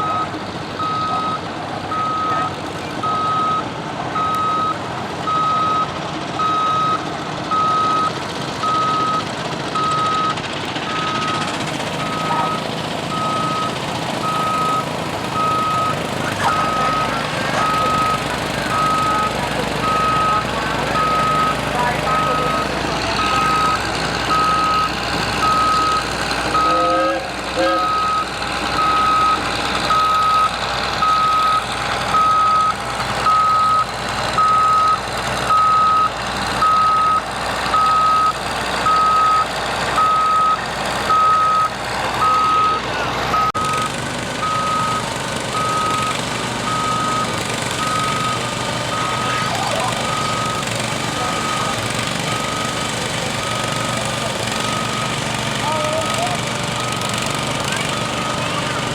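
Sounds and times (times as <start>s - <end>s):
reversing alarm beeping: 0.0s - 56.4s
engine running: 0.0s - 58.9s.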